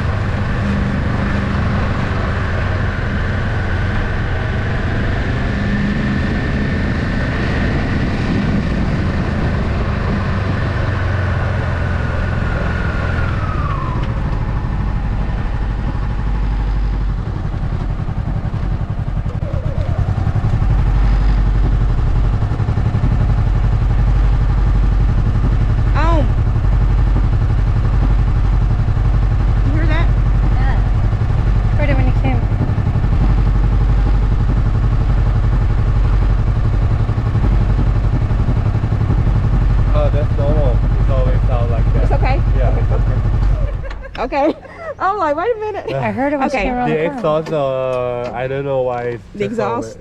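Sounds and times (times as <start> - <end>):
motorcycle engine rumbling and whining: 0.0 - 50.0.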